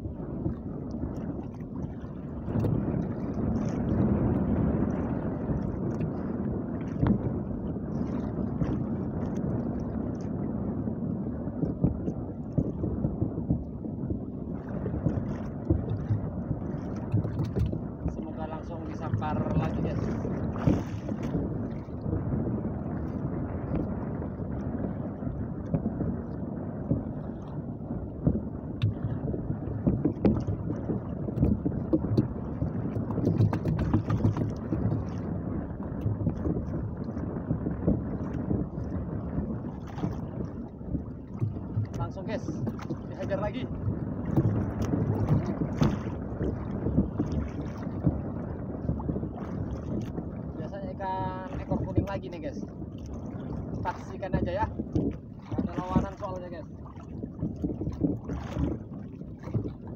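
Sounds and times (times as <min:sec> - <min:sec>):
waves washing around boat: 0:00.0 - 0:59.9
wind rumbling on microphone: 0:00.0 - 0:59.9.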